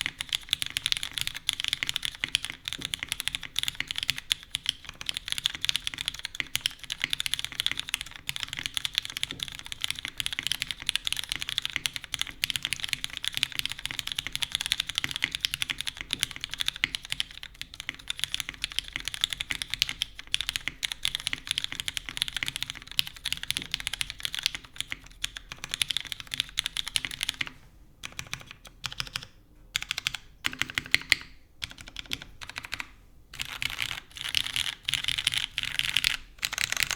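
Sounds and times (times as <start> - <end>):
fast mechanical keyboard typing: 0.0 - 36.9.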